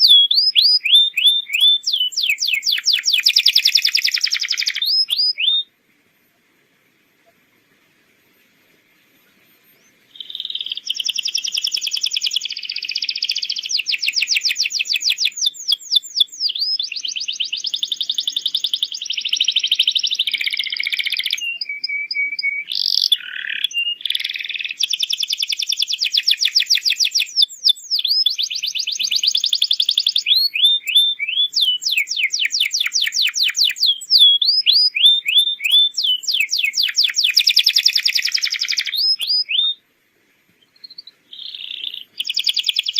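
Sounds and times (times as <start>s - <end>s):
canary singing trills: 0.0s - 39.9s, 40.5s - 42.9s.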